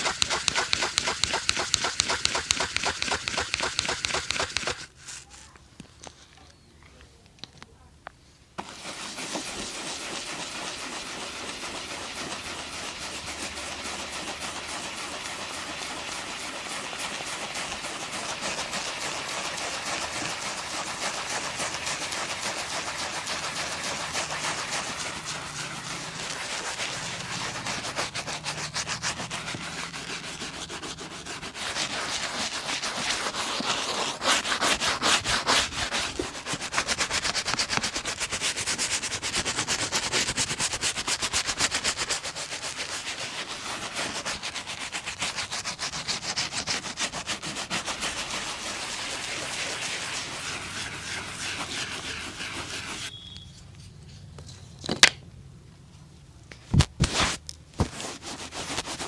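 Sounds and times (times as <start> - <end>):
rubbing strokes on a shoe: 0.0 - 5.5, 8.6 - 53.1, 57.0 - 59.0.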